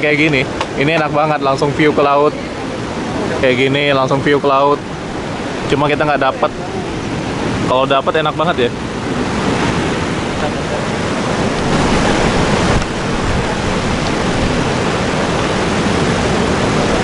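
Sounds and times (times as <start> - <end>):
sea surf washing onto shore: 0.0 - 17.0.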